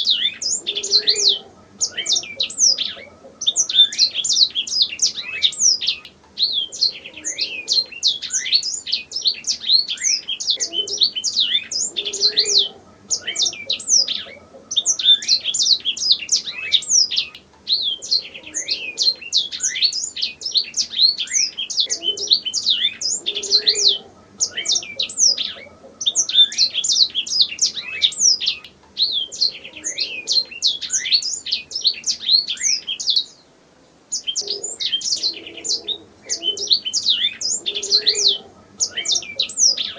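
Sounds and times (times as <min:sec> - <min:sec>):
canary singing: 0:00.0 - 0:33.5, 0:34.1 - 0:39.9.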